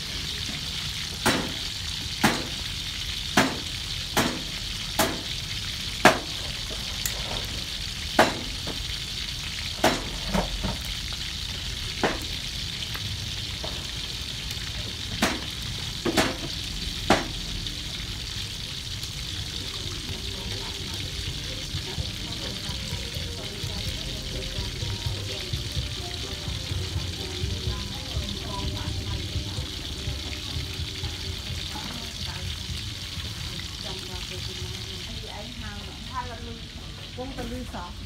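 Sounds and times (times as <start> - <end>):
fish sizzling in oil: 0.0 - 38.0.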